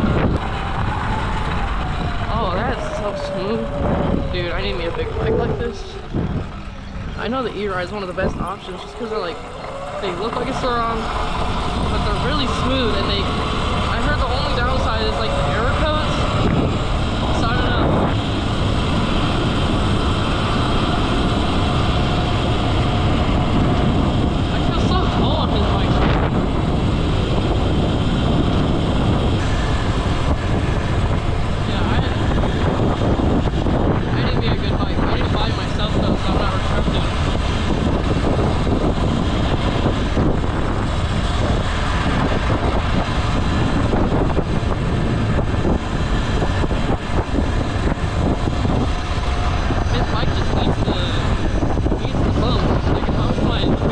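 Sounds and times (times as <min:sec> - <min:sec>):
bike riding noise: 0:00.0 - 0:53.9
motorbike running: 0:00.0 - 0:53.9
wind on microphone: 0:00.0 - 0:53.9.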